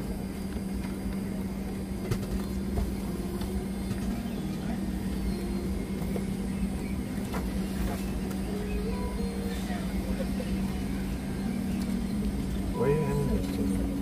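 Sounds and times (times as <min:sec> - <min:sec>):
aircraft cabin hum: 0:00.0 - 0:14.0
passenger murmur: 0:00.0 - 0:14.0.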